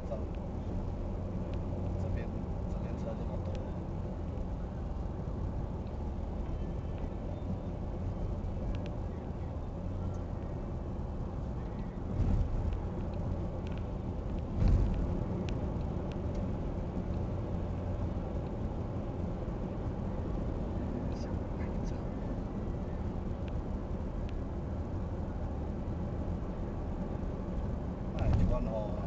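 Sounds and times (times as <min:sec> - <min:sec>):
traffic engine hum: 0:00.0 - 0:29.0.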